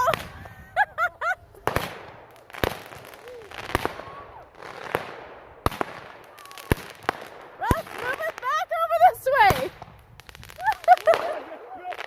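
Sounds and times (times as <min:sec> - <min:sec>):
hiss of fireworks: 0:01.6 - 0:12.0.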